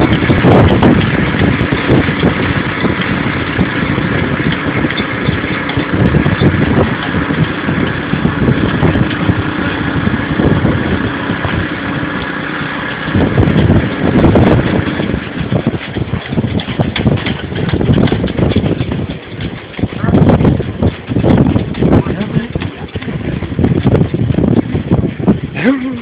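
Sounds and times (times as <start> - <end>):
wind gusting against microphone: 0.0 - 26.0.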